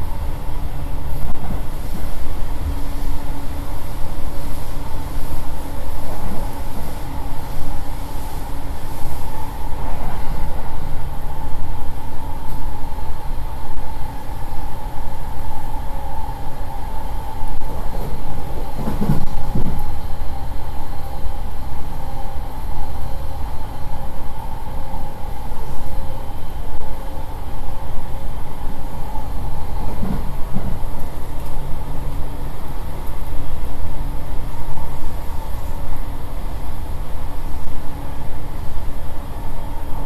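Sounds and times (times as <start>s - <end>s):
constant high hum: 0.0s - 40.0s
wheels rumbling on rail: 0.0s - 40.0s.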